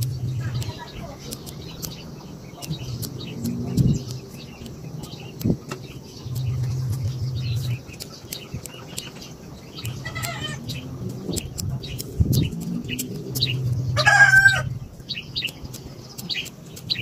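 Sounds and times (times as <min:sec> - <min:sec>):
low hum: 0:00.0 - 0:16.1
birds chirping: 0:00.0 - 0:17.0
scissors snipping twigs: 0:00.0 - 0:17.0.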